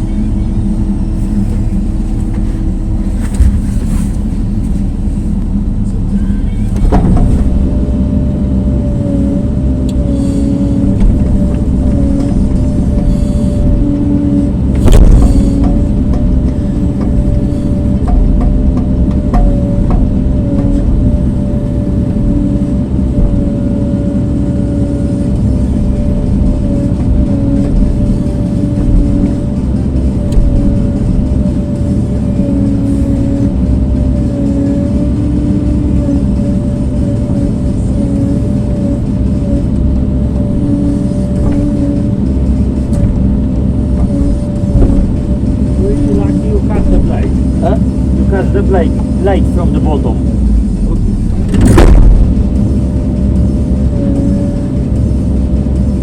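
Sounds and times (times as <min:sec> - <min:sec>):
motor droning: 0:00.0 - 0:56.0.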